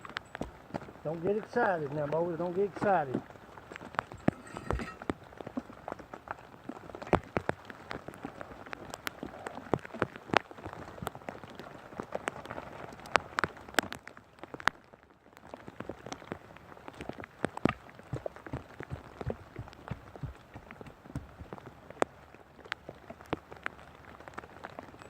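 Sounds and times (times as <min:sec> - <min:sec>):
sharp taps of raindrops: 0:00.0 - 0:25.0
steady rain patter: 0:00.0 - 0:25.0.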